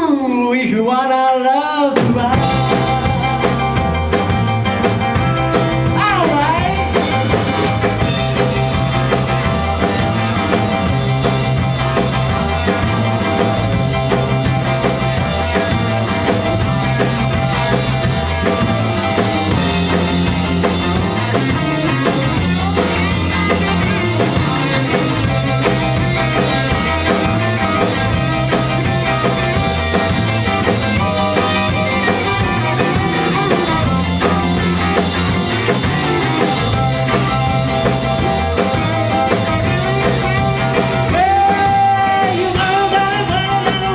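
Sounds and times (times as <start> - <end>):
electric guitar: 1.6 - 43.9
drum kit beat: 1.9 - 43.9
walking bass line: 2.0 - 43.9.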